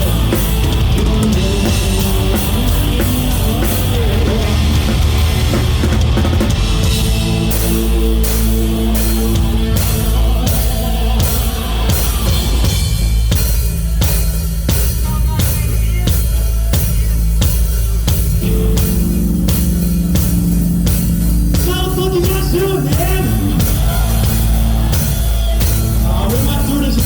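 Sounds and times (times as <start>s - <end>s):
drum kit beat: 0.0s - 27.0s
rock band playing: 0.0s - 27.0s.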